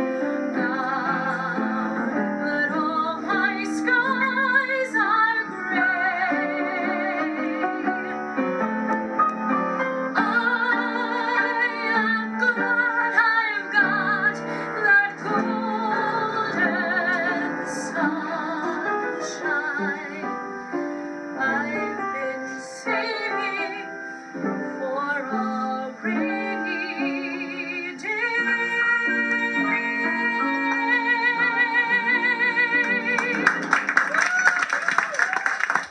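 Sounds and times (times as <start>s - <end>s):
woman singing with vibrato: 0.0s - 8.2s, 10.2s - 20.5s, 21.4s - 24.0s, 24.8s - 33.8s
piano accompaniment: 0.0s - 34.7s.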